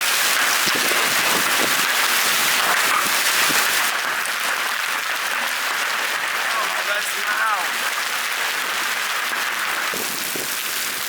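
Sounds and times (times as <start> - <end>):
heavy hail pounding hard surfaces: 0.0 - 11.0.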